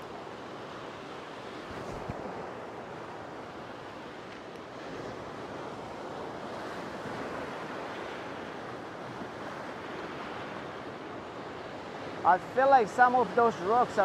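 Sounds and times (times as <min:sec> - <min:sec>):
surf breaking on rocks: 0:01.6 - 0:14.0.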